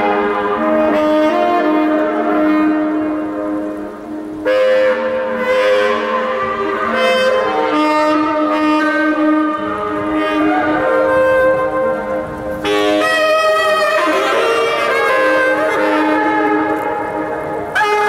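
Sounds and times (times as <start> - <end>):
saxophone playing long notes: 0.0 - 18.0.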